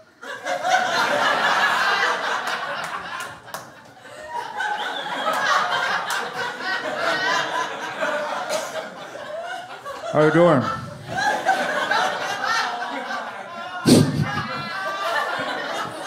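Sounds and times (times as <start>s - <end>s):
audience laughing: 0.0s - 16.0s.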